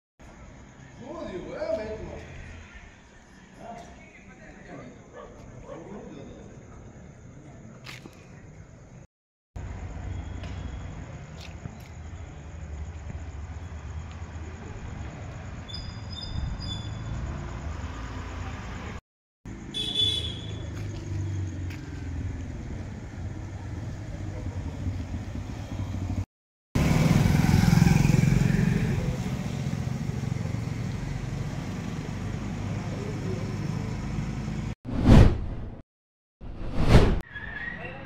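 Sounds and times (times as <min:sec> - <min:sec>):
street traffic rumbling: 0:00.2 - 0:34.8.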